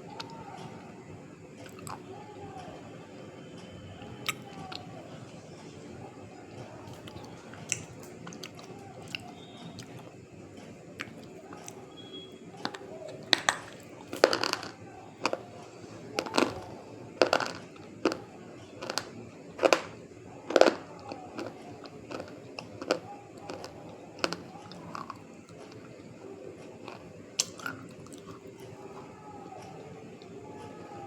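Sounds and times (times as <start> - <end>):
person chewing brittle food: 1.6 - 2.1, 4.0 - 4.9, 6.7 - 31.0.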